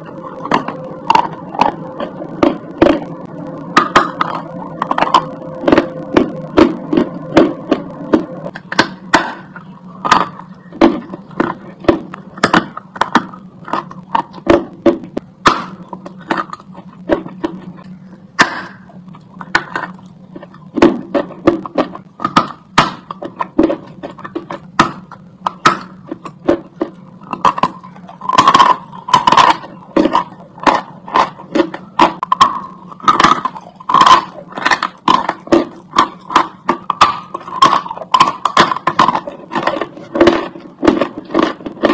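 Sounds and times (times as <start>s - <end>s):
steady low hum: 0.0s - 41.9s
chalk crunching while chewed: 3.8s - 41.9s.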